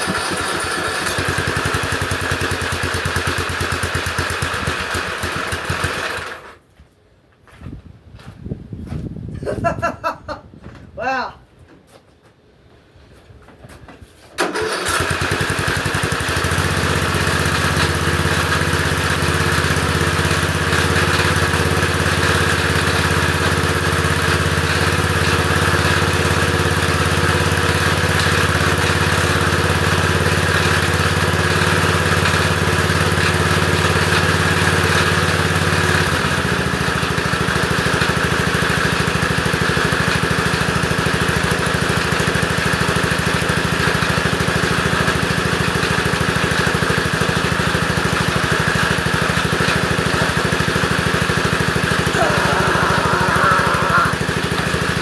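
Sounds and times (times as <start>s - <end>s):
lawn tractor engine starting: 0.0s - 6.6s, 14.4s - 55.0s.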